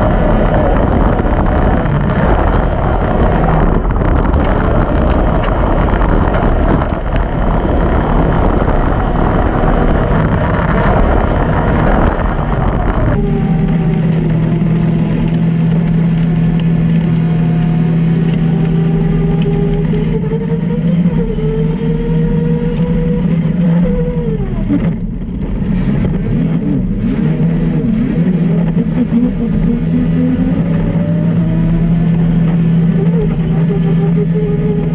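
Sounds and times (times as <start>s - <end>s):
rough-ride rattling: 0.0s - 34.9s
utility vehicle engine revving: 0.0s - 34.9s
wind noise: 0.0s - 34.9s.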